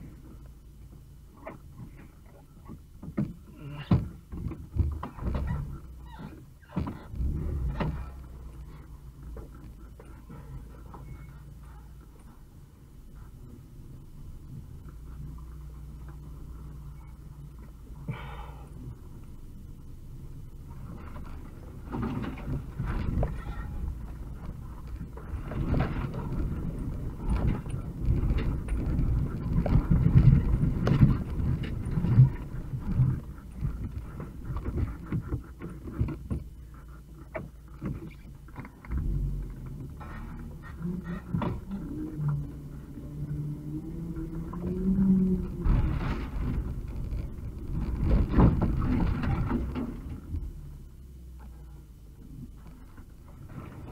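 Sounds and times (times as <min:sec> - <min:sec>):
van engine droning: 0:00.0 - 0:53.9
vehicle body clattering over bumps: 0:01.0 - 0:18.2, 0:19.6 - 0:51.0, 0:51.6 - 0:53.9.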